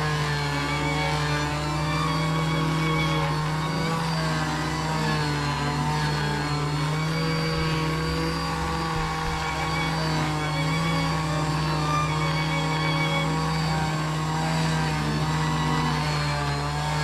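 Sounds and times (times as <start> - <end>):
electric sander running: 0.0 - 17.0.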